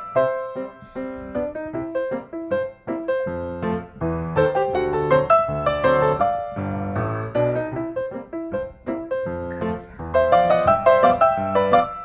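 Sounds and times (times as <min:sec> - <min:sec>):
lively piano music: 0:00.0 - 0:12.0.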